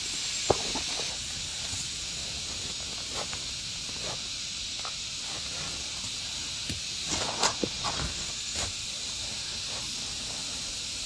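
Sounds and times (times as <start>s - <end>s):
insects droning: 0.0s - 11.0s
rustles and steps in leaves: 0.4s - 11.0s.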